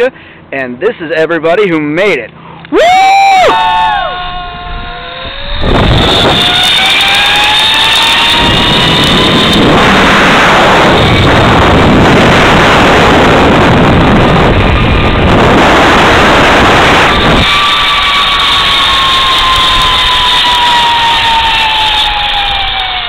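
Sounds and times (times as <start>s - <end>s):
rising pulley whine: 2.7s - 23.0s
zip-line trolley rumble: 2.7s - 23.0s
wind buffeting microphone: 3.5s - 23.0s.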